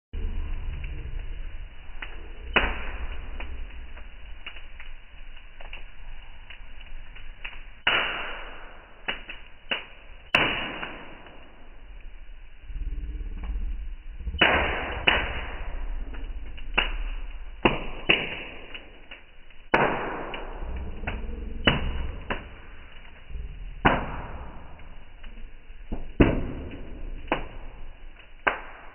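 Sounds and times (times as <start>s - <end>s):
low rumble: 0.1s - 28.9s
burning logs popping: 0.2s - 28.9s
wood fire crackling: 0.2s - 28.9s.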